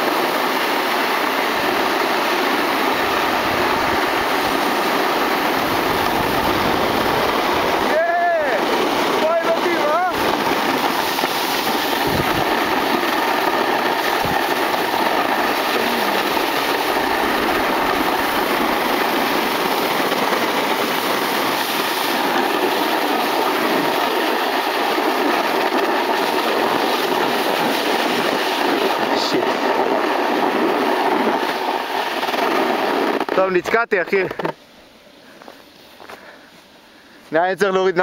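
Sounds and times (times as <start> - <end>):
wind rushing over microphone: 0.0 - 33.7
snowboard scraping over snow: 0.0 - 34.3.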